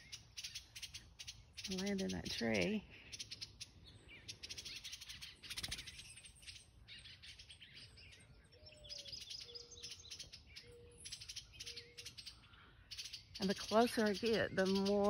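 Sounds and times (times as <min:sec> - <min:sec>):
birds chattering in alarm: 0:00.0 - 0:15.0.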